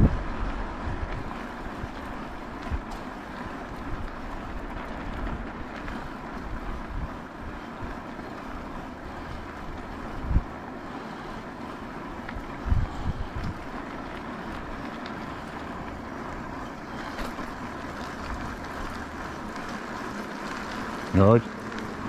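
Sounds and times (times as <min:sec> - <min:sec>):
bike wheels rolling: 0:00.0 - 0:22.0
wind buffeting microphone: 0:00.0 - 0:22.0.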